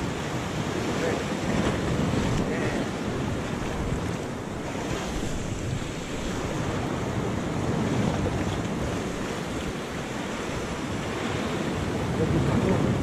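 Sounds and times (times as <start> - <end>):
sea surf washing against rocks: 0.0 - 13.0
wind buffeting microphone: 0.0 - 13.0.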